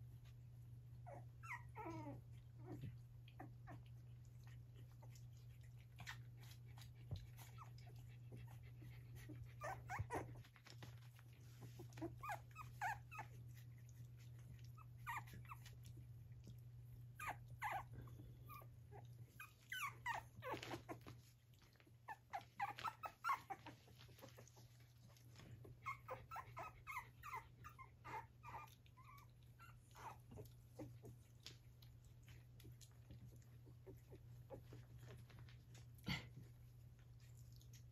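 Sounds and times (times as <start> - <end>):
puppies squeaking and whining: 0.8 - 36.0.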